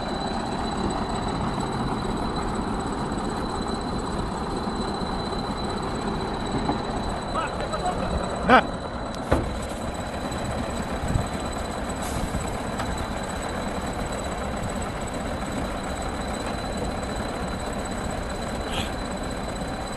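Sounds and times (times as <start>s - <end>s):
heavy engine running: 0.0s - 19.9s.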